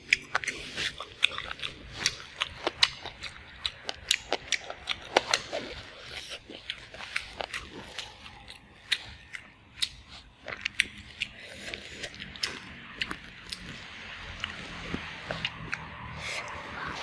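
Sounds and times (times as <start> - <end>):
crisp chewing: 0.0 - 17.0
fingers picking through food: 0.0 - 17.0.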